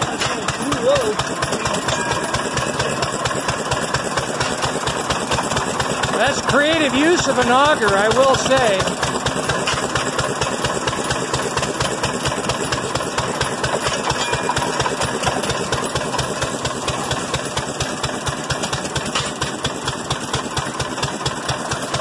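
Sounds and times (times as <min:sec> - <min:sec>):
stationary engine knocking: 0:00.0 - 0:22.0.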